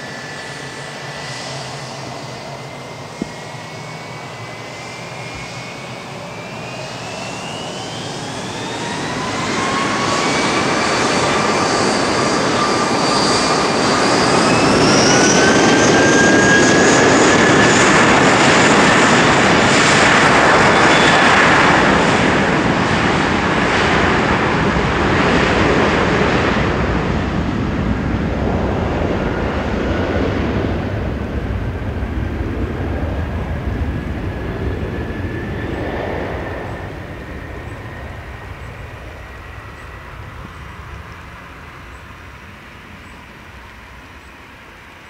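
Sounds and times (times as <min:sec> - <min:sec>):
jet engines at takeoff power: 0:00.0 - 0:45.0.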